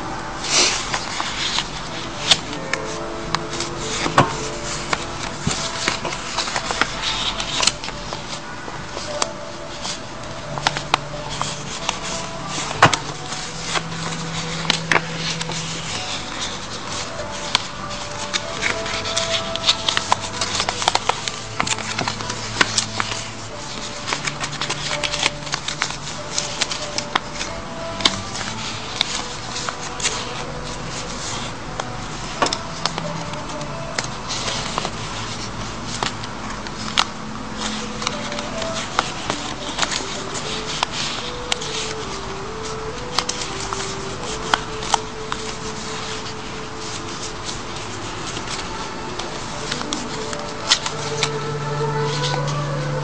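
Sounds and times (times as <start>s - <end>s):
paper rustling and crinkling: 0.0s - 53.0s
soft background music: 0.0s - 53.0s.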